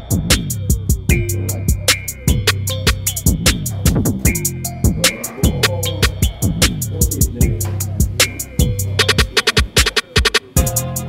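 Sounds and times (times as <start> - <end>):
deep bass kicks: 0.0 - 9.3
drum-machine beat music: 0.0 - 11.0.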